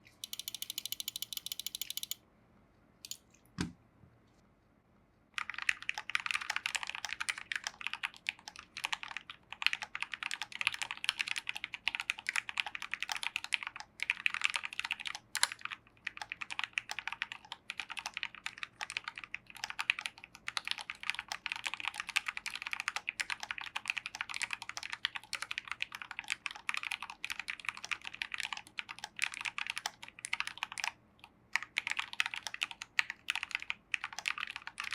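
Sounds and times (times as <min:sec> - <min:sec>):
fast typing on keyboard: 0:00.2 - 0:02.2, 0:05.4 - 0:34.9.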